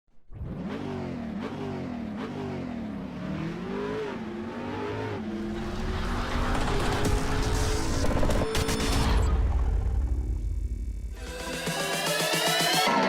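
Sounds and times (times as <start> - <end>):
engine revving: 0.2 - 12.9.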